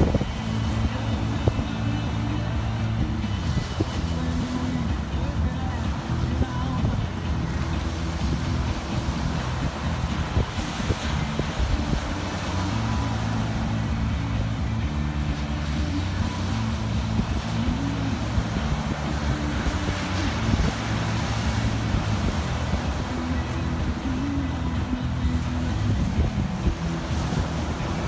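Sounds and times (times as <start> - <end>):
low wavering drone: 0.0 - 28.0
waves breaking on shore: 0.0 - 28.0
wind buffeting microphone: 0.0 - 28.0.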